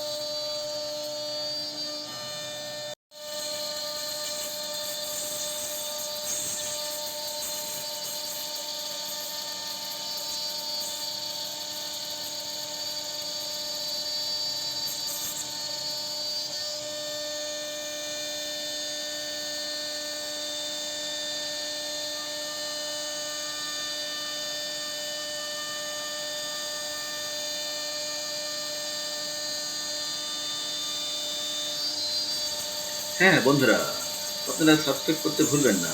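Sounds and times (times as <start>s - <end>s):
router spindle whining: 0.0s - 21.3s, 22.1s - 35.9s.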